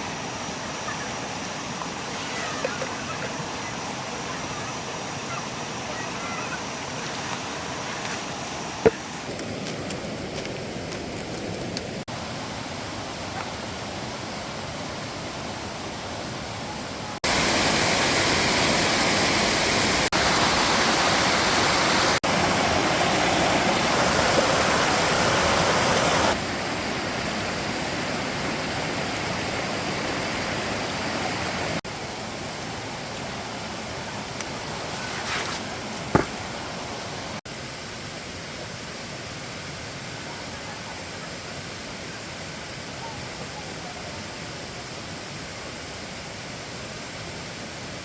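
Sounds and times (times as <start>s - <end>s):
flowing stream water: 0.0s - 48.0s.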